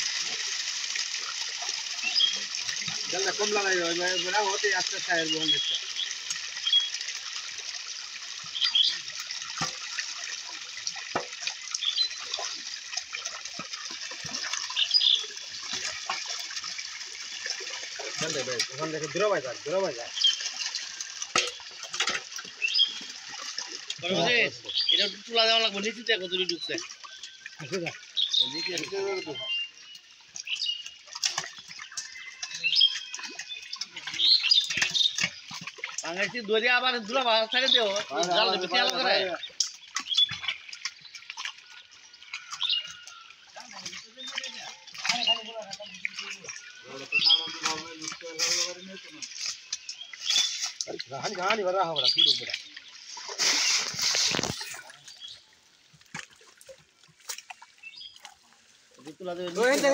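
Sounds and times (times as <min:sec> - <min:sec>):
water splashing and sloshing: 0:00.0 - 0:59.9
small birds chirping: 0:01.8 - 0:07.4, 0:08.4 - 0:09.2, 0:11.6 - 0:21.8, 0:22.4 - 0:55.5, 0:57.7 - 0:59.9.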